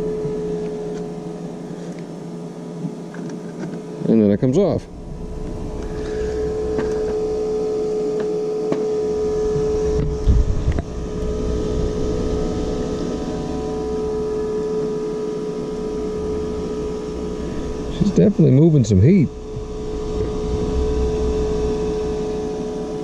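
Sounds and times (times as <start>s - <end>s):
fan motor humming: 0.0s - 23.0s.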